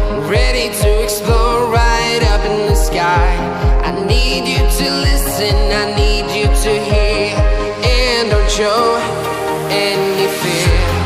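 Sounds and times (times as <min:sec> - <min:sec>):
steady kick drum beat: 0:00.0 - 0:09.0
pop song with sung vocal: 0:00.0 - 0:11.0.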